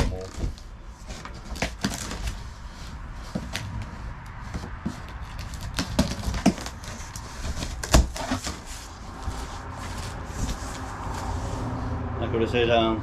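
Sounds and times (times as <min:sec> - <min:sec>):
cardboard packaging being handled: 0:00.0 - 0:11.7
distant traffic rumble: 0:00.0 - 0:13.0.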